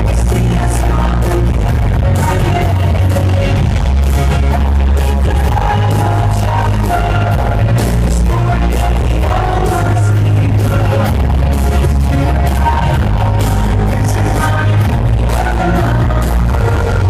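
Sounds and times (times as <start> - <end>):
deep bass notes: 0.0 - 17.0
live pop-rock band: 0.0 - 17.0.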